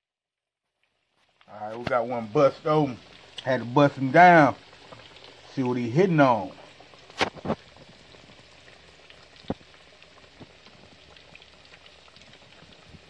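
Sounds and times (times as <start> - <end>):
frying oil crackling and popping: 0.6 - 13.0.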